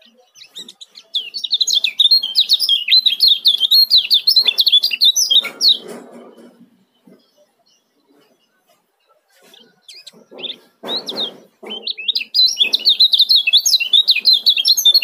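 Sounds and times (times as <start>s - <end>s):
bird chirping rapidly: 0.0s - 8.7s, 9.6s - 15.0s.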